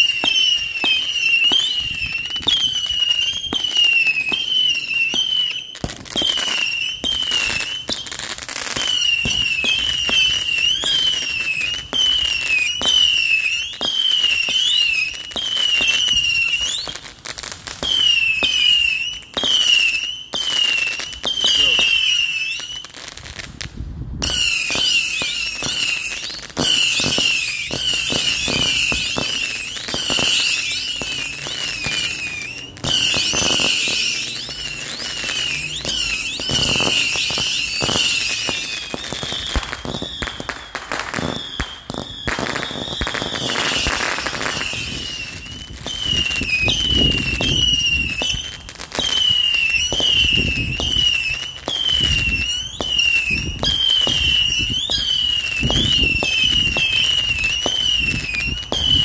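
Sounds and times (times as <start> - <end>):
whistling firework shots: 0.0 - 59.0.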